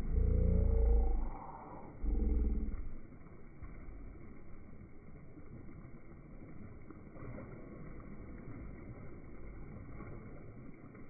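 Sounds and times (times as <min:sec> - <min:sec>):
swimmer splashing water: 0:00.0 - 0:11.0.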